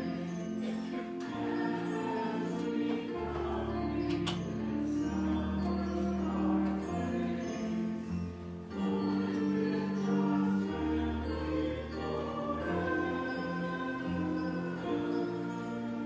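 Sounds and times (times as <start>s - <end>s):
church organ playing a hymn: 0.0s - 16.0s.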